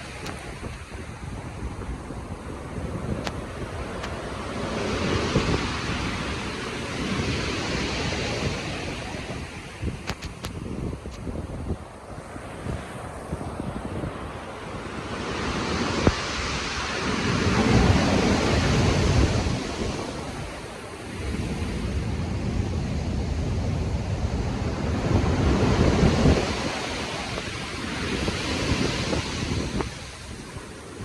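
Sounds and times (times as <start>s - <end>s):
ocean waves breaking: 0.0s - 31.0s
wind: 0.0s - 31.0s.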